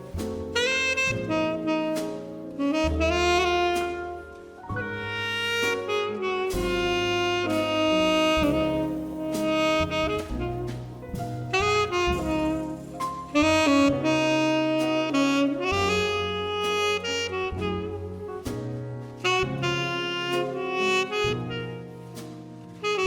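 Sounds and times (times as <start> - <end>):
jazz band with bass and drums: 0.0 - 23.0
saxophone playing ballad melody: 0.0 - 23.0.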